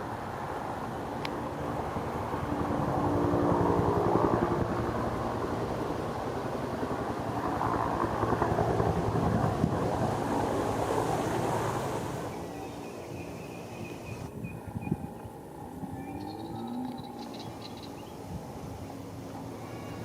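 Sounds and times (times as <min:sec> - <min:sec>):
helicopter rotor beat: 0:00.0 - 0:20.0.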